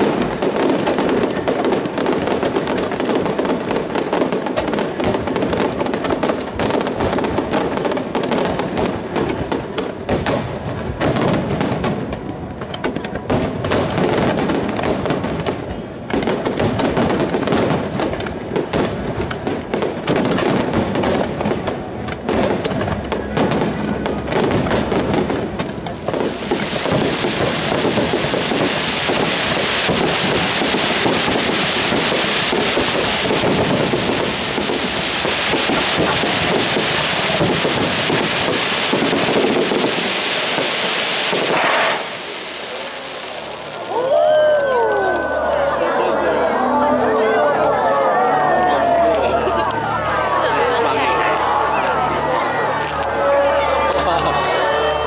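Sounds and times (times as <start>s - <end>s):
fireworks bursting with bangs: 0.0s - 46.0s
fireworks sizzling crackle: 0.0s - 55.0s.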